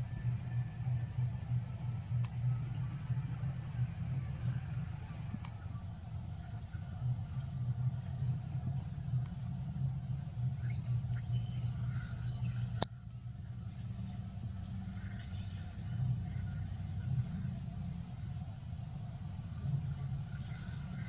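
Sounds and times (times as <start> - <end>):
high-pitched insect drone: 0.0 - 21.0
low steady rumble: 0.0 - 21.0.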